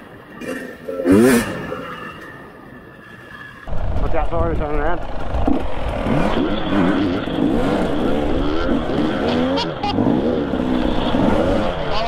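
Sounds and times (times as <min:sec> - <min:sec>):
dirt bike engine revving: 0:00.4 - 0:02.4, 0:03.7 - 0:12.0.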